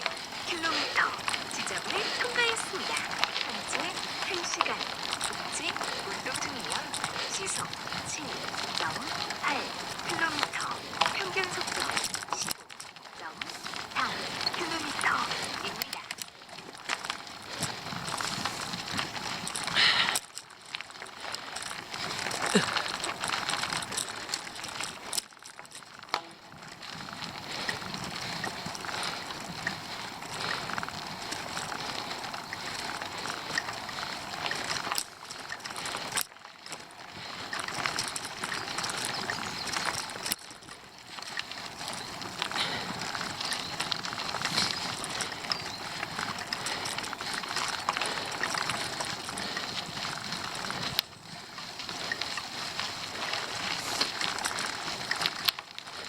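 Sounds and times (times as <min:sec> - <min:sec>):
bicycle tyres rolling: 0:00.0 - 0:56.0.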